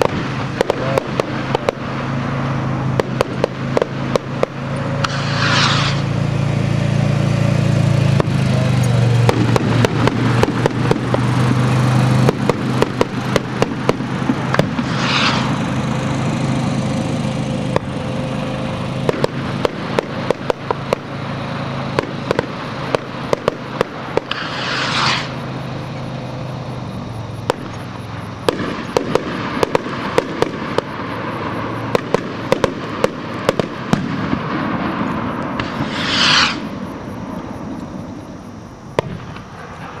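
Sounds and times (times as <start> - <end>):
rockets bursting with bangs: 0.0 - 40.0
rockets rushing: 0.0 - 40.0.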